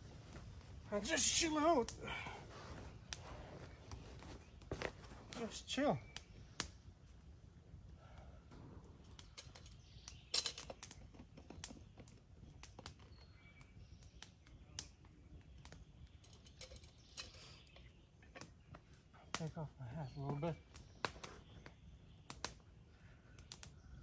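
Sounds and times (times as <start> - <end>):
campfire crackling and popping: 0.0 - 24.0
faint bird chirps: 2.0 - 7.3, 8.0 - 24.0.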